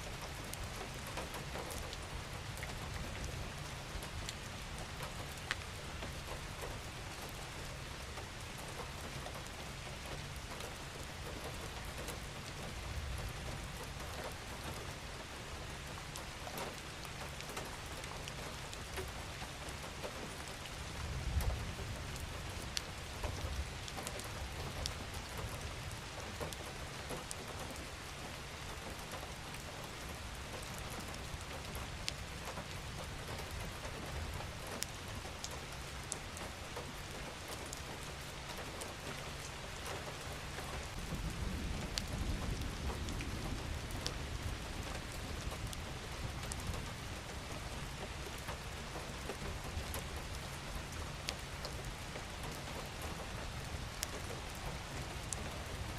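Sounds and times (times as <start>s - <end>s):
steady rain falling: 0.0s - 55.9s
raindrops ticking: 0.1s - 55.9s.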